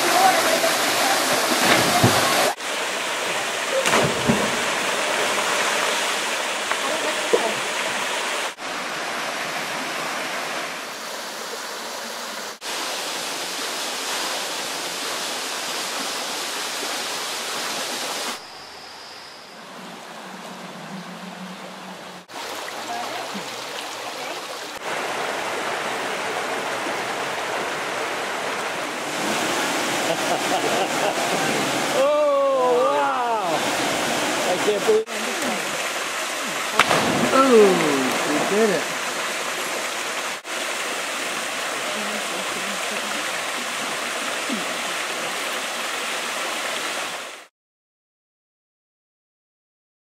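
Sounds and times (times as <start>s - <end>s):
rushing water: 0.0s - 47.5s.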